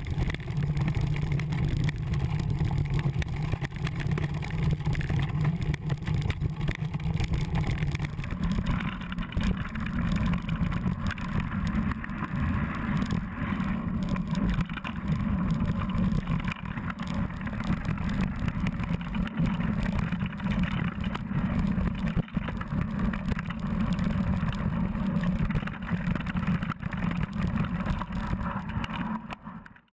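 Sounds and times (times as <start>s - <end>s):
bike rattling: 0.0s - 29.2s
wind rumble on microphone: 0.0s - 29.4s.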